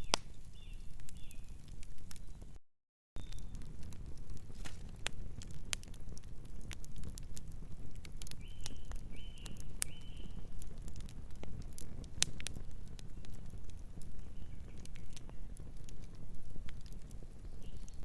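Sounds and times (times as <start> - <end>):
wood fire crackling and popping: 0.0 - 2.6, 3.2 - 18.0.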